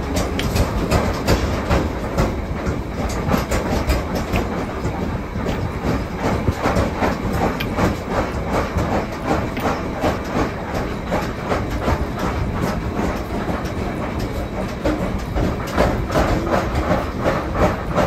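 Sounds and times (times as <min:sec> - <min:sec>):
metallic clacks: 0:00.0 - 0:18.0
workshop machinery rumbling: 0:00.0 - 0:18.0.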